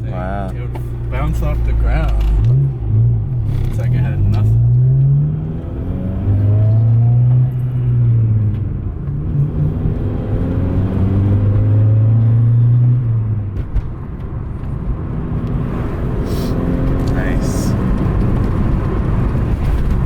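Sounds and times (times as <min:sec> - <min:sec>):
car engine pulling: 0:00.0 - 0:20.0
road noise: 0:00.0 - 0:20.0.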